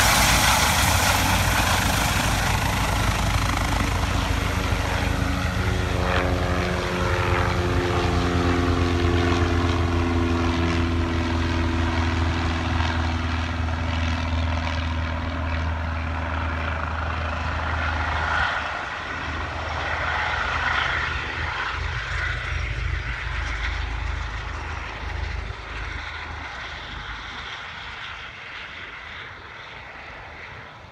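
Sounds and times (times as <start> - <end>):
helicopter rotor beat: 0.0 - 30.9
turbine whine: 0.0 - 30.9.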